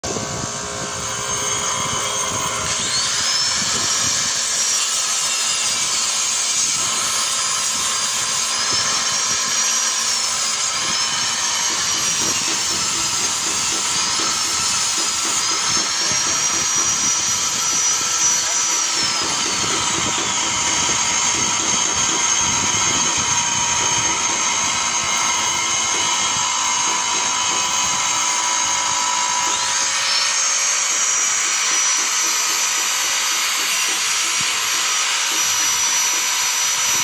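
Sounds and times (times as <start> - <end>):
bench grinder grinding metal: 0.1 - 37.0.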